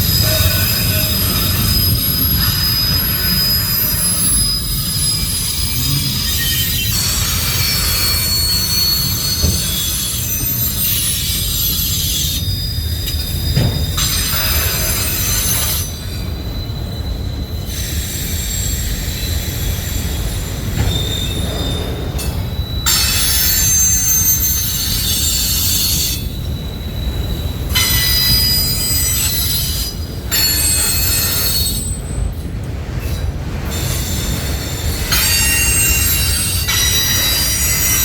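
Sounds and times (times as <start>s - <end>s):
freight train rumbling: 0.0s - 38.0s
train wheels squealing on rails: 0.0s - 38.0s.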